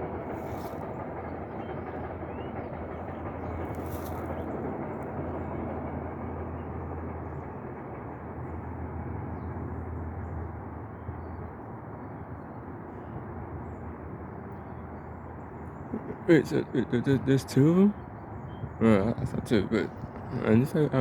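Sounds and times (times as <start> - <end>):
freight train wheels rumbling: 0.0 - 10.9, 13.8 - 21.0.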